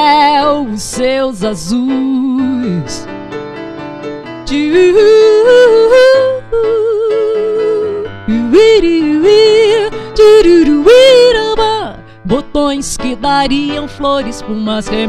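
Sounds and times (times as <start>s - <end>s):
woman singing wordless notes: 0.0s - 3.1s, 4.4s - 15.0s
electric keyboard chords: 0.0s - 15.0s.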